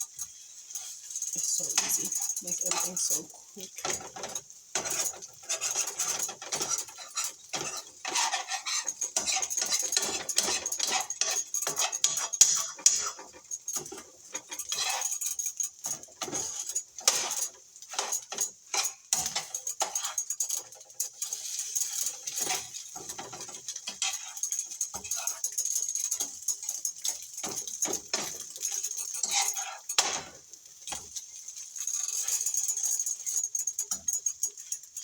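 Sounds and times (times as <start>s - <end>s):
utensil scraping a frying pan: 0.0s - 35.0s.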